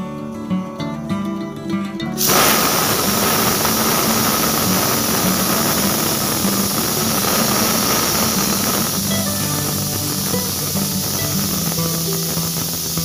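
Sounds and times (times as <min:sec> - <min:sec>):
pressure cooker whistle hissing: 0:02.2 - 0:13.0.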